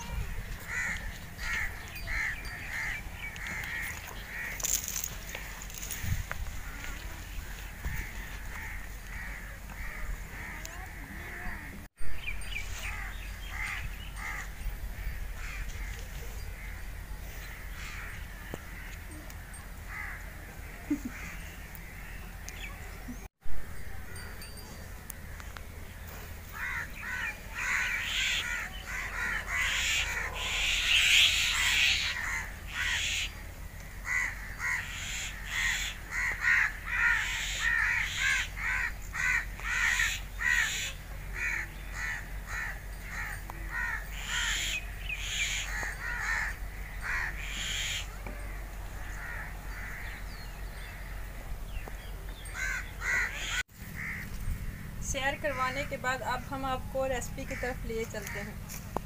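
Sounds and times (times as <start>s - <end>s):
crows cawing: 0.6s - 11.8s, 12.9s - 16.9s, 17.5s - 22.1s, 25.3s - 48.4s, 49.0s - 51.2s, 52.4s - 54.9s, 57.4s - 58.5s.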